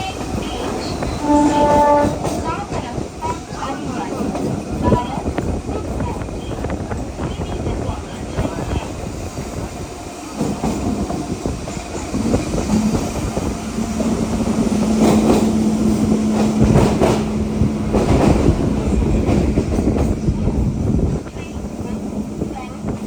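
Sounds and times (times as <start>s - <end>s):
train wheels clattering: 0.0s - 23.0s.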